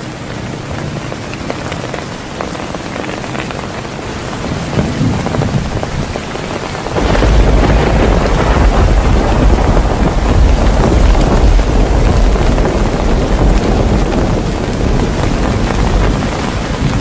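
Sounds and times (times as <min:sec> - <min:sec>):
heavy rain falling: 0:00.0 - 0:17.0
thunder rumbling: 0:00.3 - 0:17.0.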